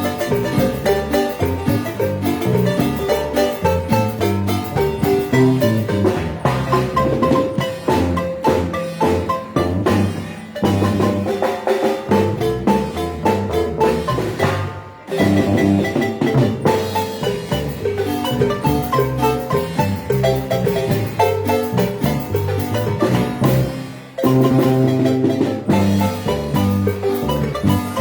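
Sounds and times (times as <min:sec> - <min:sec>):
marimba ensemble playing: 0:00.0 - 0:28.0.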